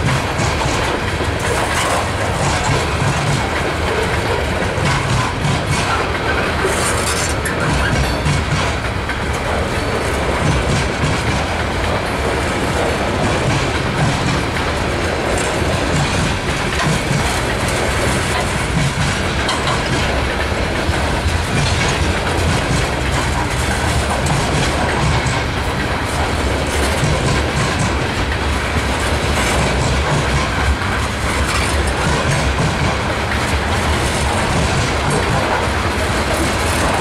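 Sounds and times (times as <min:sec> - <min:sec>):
steel wheels rumbling on rail: 0:00.0 - 0:37.0
wheels clicking over rail joints: 0:00.0 - 0:37.0.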